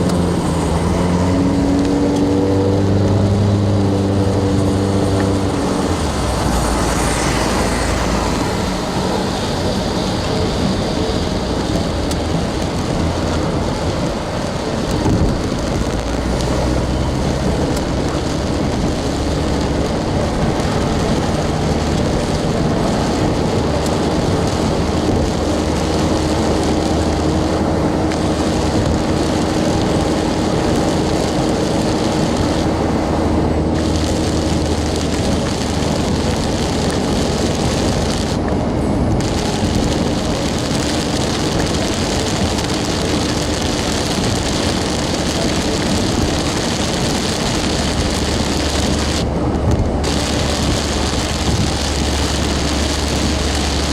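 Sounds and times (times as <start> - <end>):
car engine hum: 0.0 - 53.9
rain: 0.0 - 53.9
road noise on wet road: 0.0 - 53.9.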